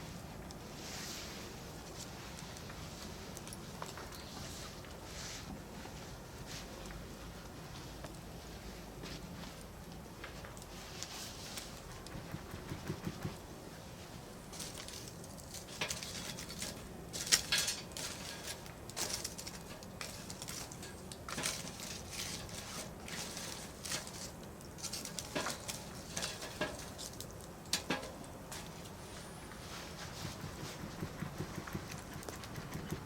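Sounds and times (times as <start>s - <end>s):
fire hissing softly: 0.0s - 12.1s, 13.3s - 30.8s.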